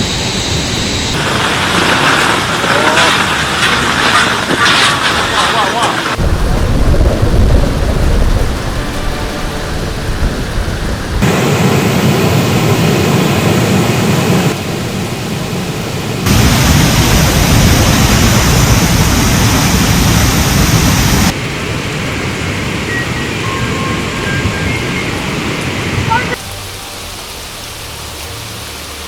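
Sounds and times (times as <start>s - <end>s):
floodwater rushing: 0.0s - 29.0s
heavy rain: 0.0s - 29.0s.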